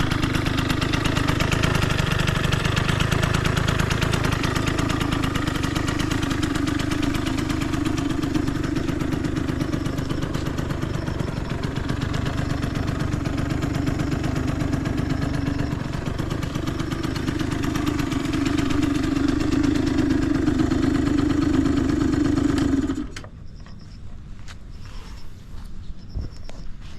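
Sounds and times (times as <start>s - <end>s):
scooter engine idling: 0.0s - 26.9s.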